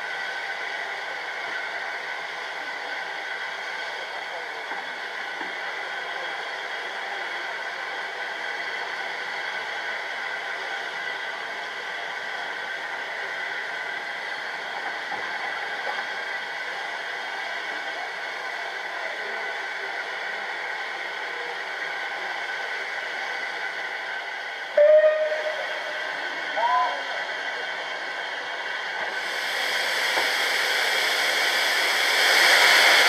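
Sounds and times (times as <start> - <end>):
steam locomotive hissing: 0.0 - 33.0.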